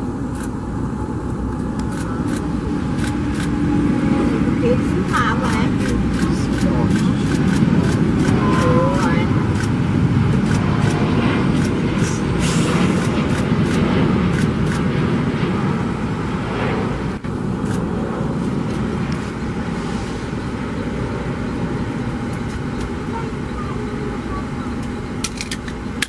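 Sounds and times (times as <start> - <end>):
jet engines rumbling at takeoff: 0.0 - 26.0.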